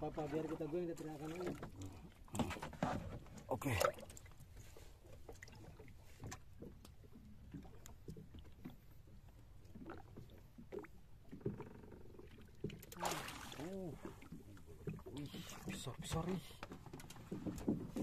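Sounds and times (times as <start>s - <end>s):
faint boat engine rumble: 0.0s - 18.0s.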